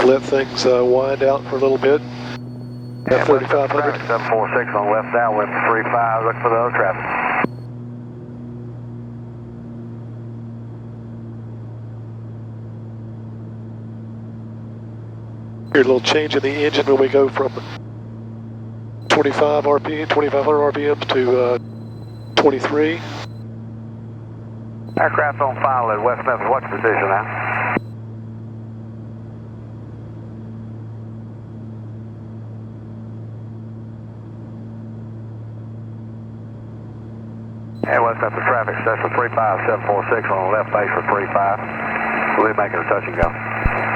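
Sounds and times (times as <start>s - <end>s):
aircraft engines droning: 0.0s - 43.9s.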